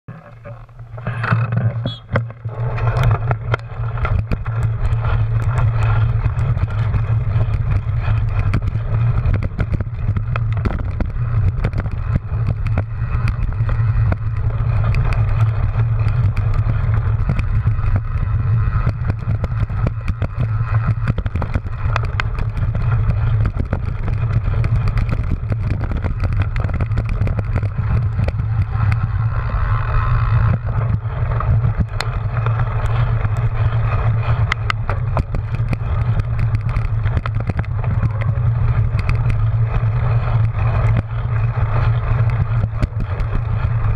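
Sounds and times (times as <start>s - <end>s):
bike rattling over bumpy grass: 0.1s - 43.9s
low rumble: 0.1s - 43.9s
wind rushing over microphone: 2.1s - 43.9s.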